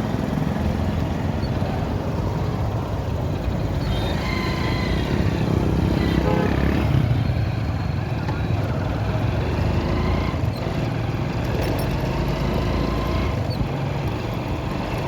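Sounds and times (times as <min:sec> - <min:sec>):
motorcycle engine and road noise: 0:00.0 - 0:15.0.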